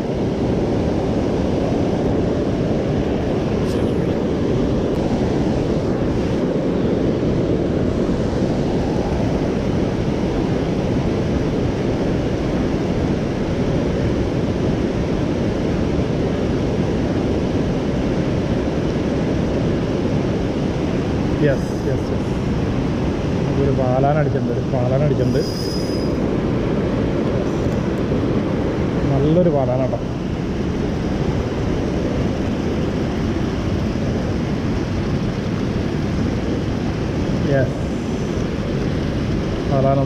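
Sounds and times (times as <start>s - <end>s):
river running over weir: 0.0s - 40.0s
wind buffeting microphone: 0.0s - 40.0s.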